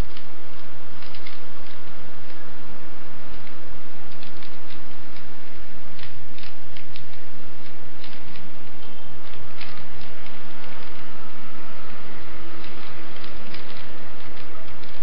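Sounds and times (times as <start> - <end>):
puzzle cube clicking: 0.0 - 2.4, 3.3 - 11.1, 12.5 - 15.0
steady hiss: 0.0 - 15.0.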